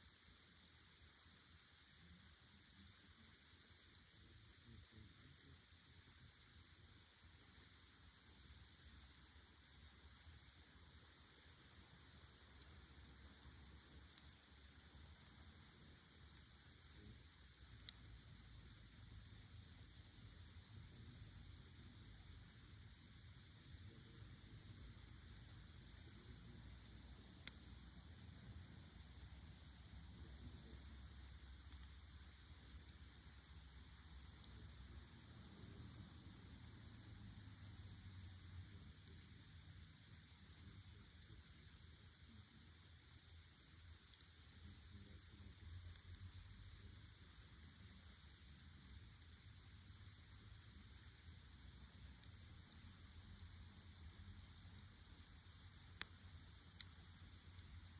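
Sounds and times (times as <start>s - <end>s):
crickets chirring: 0.0s - 57.9s.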